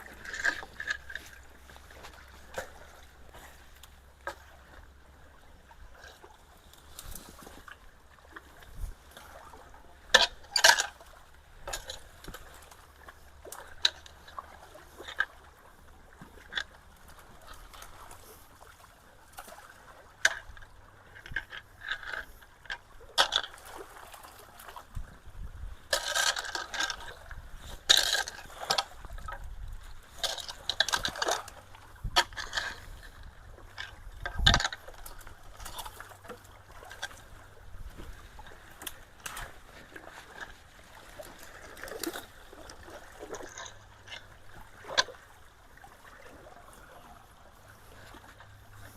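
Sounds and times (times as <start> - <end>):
water trickling and splashing: 0.0 - 48.9.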